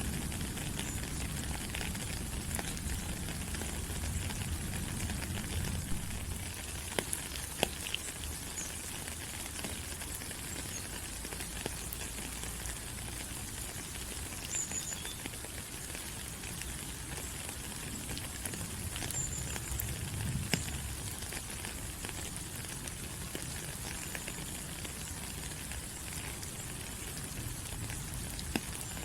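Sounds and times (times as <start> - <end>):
rain falling on leaves: 0.0 - 29.0
water drops and drips: 0.0 - 29.0.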